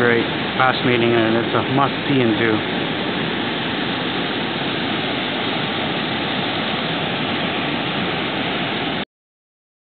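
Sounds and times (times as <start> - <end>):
rapids rushing: 0.0 - 9.0.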